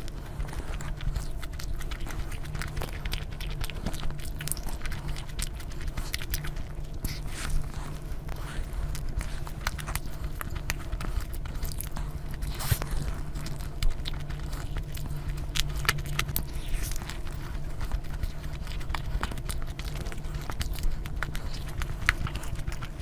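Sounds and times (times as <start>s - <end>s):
low hum: 0.0s - 23.0s
person chewing food: 0.0s - 23.0s.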